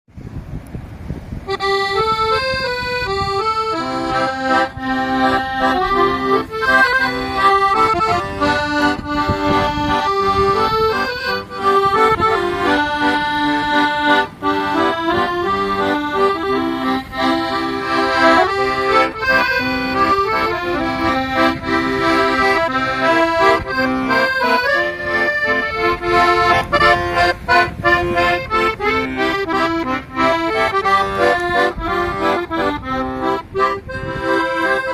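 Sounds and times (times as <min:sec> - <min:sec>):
accordion playing a lively tune: 0:01.4 - 0:34.9.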